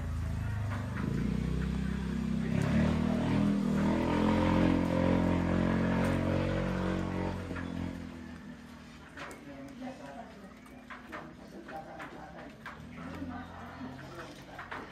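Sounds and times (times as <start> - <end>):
vehicle engine passing: 0.0 - 14.9.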